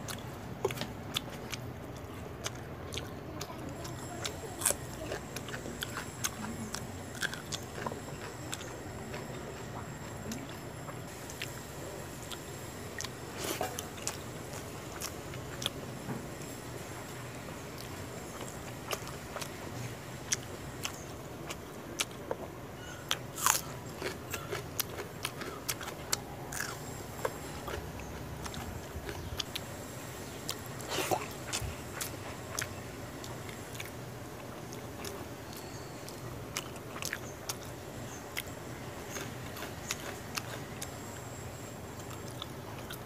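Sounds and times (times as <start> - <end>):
person chewing and crunching food: 0.0 - 43.0.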